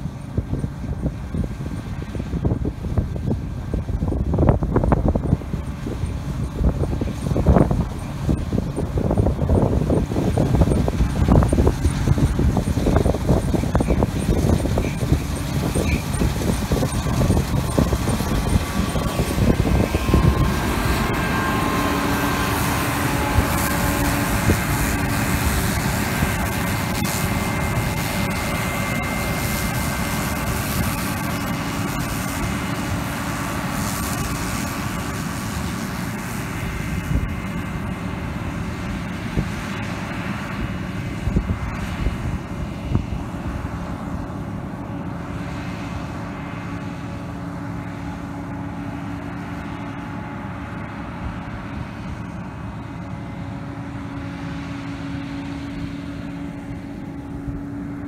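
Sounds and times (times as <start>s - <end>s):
combine harvester running: 0.0s - 58.0s
machinery whining tones: 0.0s - 58.0s.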